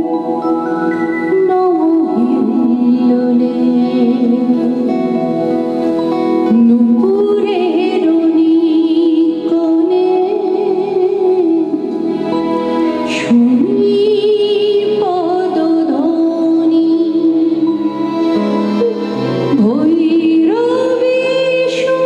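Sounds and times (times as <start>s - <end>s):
harmonium: 0.0s - 22.0s
woman singing: 1.2s - 22.0s.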